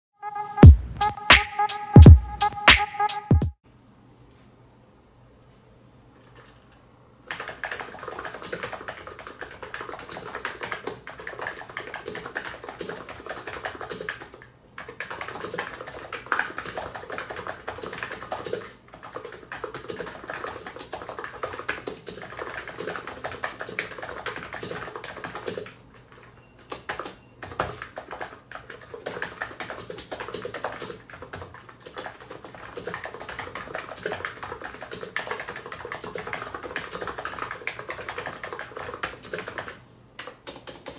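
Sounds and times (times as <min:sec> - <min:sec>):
fast keyboard typing: 0:07.3 - 0:40.9.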